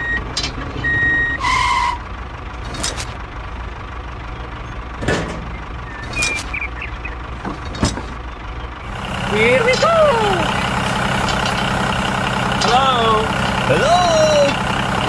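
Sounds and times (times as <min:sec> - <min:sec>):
tractor engine humming: 0:00.0 - 0:15.0.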